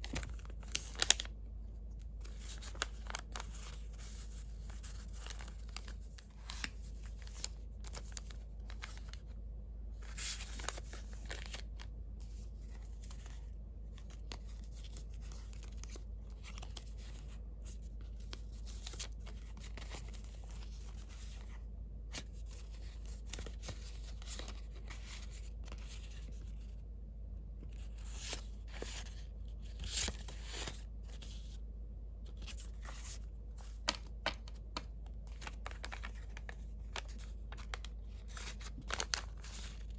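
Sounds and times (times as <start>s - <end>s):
paper rustling and crinkling: 0.0s - 9.4s, 10.0s - 26.8s, 27.6s - 31.6s, 32.2s - 39.9s.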